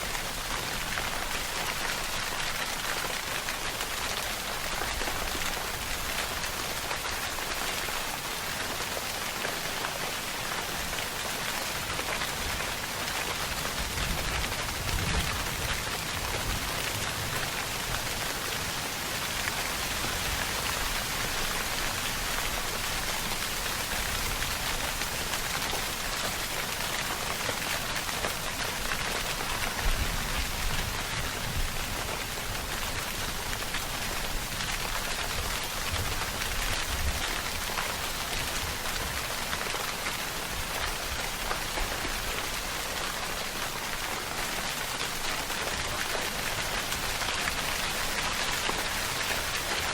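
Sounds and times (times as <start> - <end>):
rain hissing on a surface: 0.0 - 49.9.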